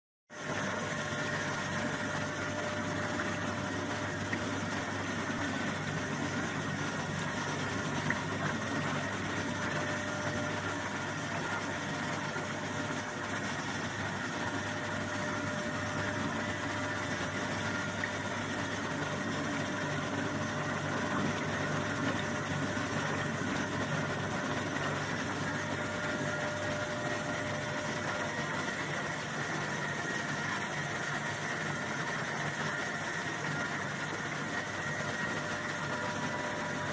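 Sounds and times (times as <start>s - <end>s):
soybeans churning in water: 0.3s - 36.9s
washing machine motor hum: 0.3s - 36.9s.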